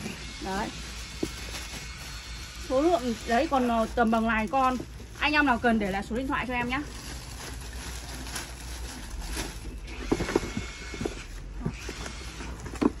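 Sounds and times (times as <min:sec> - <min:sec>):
cardboard rustling: 0:00.0 - 0:13.0
plastic bag crinkling: 0:00.0 - 0:13.0.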